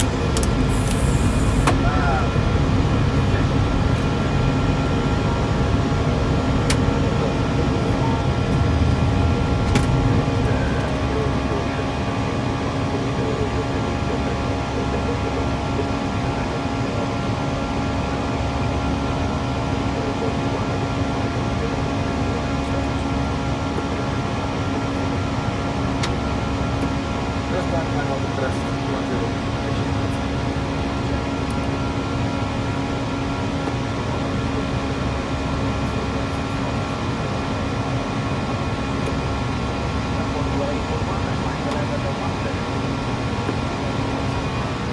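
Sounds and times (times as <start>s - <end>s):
air-conditioning and airflow rush: 0.0s - 44.9s
aircraft engine hum: 0.0s - 44.9s.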